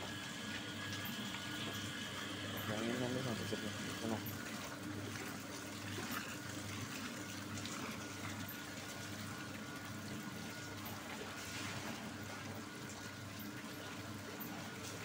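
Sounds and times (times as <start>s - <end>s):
machine hum: 0.0s - 15.0s
milk pouring and splashing: 0.0s - 15.0s.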